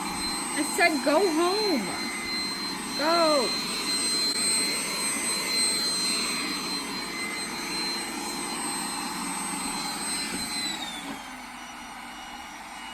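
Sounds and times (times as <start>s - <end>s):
robot vacuum motor whine: 0.0s - 12.9s.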